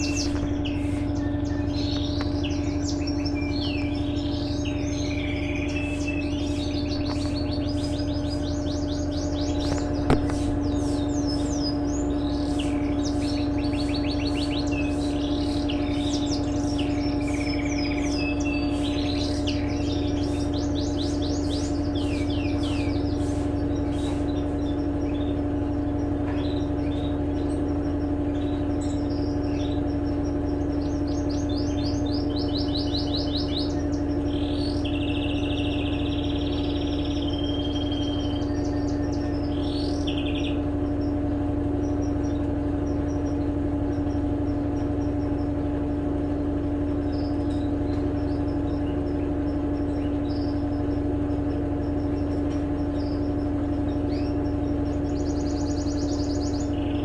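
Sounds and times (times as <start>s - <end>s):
birds chirping: 0.0s - 57.0s
washing machine humming: 0.0s - 57.0s.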